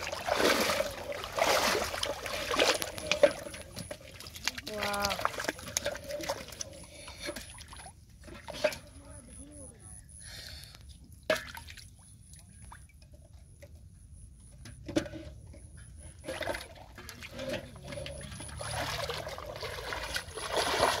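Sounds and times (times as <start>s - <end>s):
water splashing and trickling: 0.0s - 21.0s.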